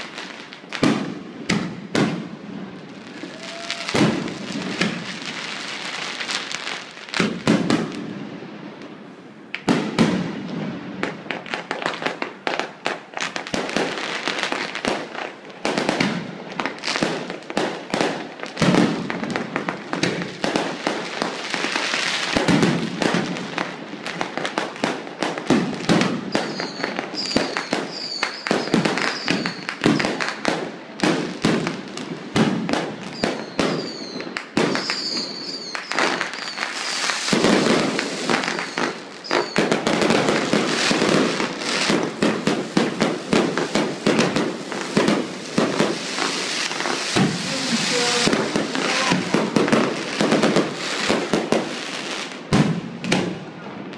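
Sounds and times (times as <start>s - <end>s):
fireworks bangs and crackling: 0.0s - 53.9s.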